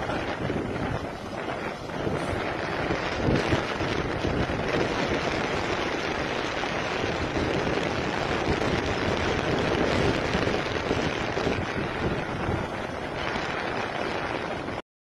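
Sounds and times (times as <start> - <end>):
water rushing and splashing: 0.0 - 14.8.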